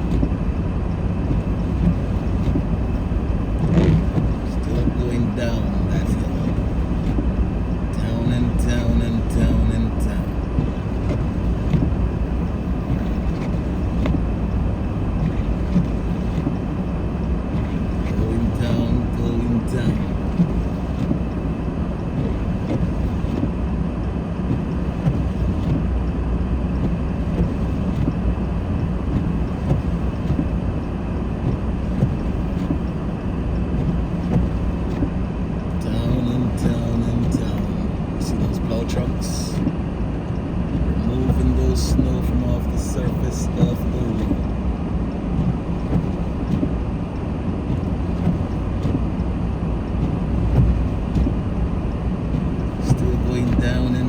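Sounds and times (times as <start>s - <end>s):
car engine rumble: 0.0s - 54.0s
tyres on snowy road: 0.0s - 54.0s.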